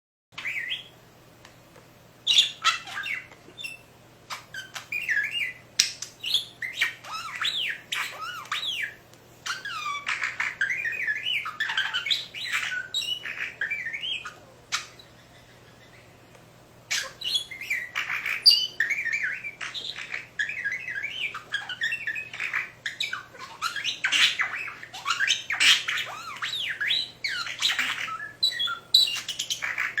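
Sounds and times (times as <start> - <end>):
budgerigar chattering and whistling: 0.4 - 0.9, 2.2 - 16.2, 16.9 - 30.0.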